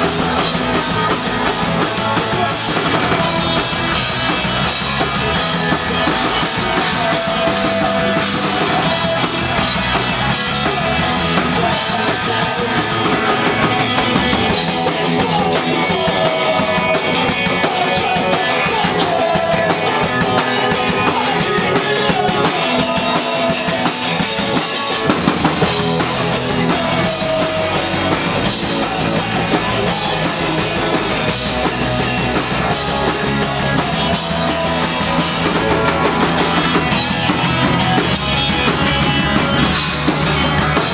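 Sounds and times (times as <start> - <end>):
drum kit: 0.0 - 40.9
punk rock band playing live: 0.0 - 40.9.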